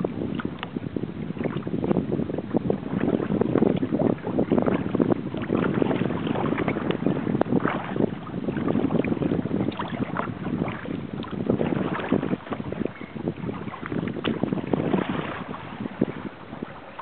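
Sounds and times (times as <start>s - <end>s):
water splashing against kayak hull: 0.0s - 17.0s
wind on microphone: 0.0s - 17.0s.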